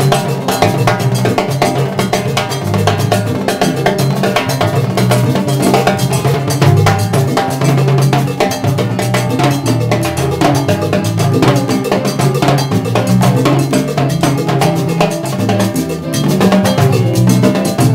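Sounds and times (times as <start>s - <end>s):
cowbell and timbales: 0.0s - 17.9s
salsa band playing: 0.0s - 17.9s.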